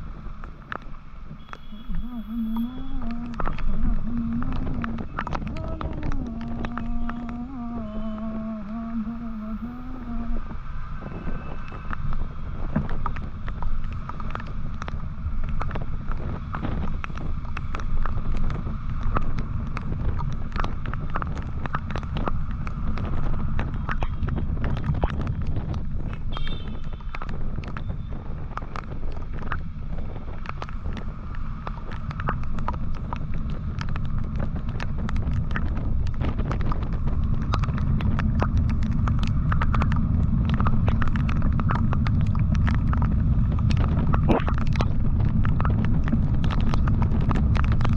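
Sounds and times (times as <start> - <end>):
wind on microphone: 0.0 - 47.9.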